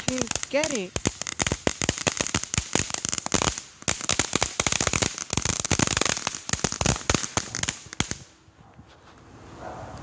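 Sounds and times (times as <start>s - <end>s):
firecracker string cracking: 0.0s - 8.3s.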